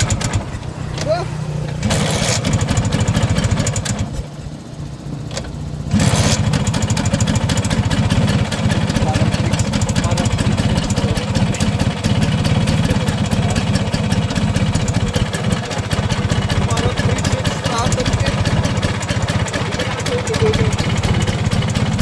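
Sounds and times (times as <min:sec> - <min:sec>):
scooter two-stroke engine running: 0:00.0 - 0:22.0.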